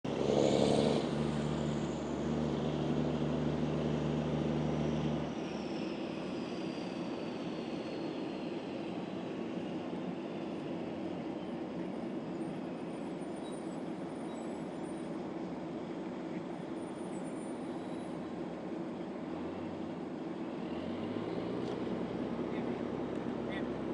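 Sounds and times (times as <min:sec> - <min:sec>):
jet engines with high whine: 0:00.1 - 0:23.9.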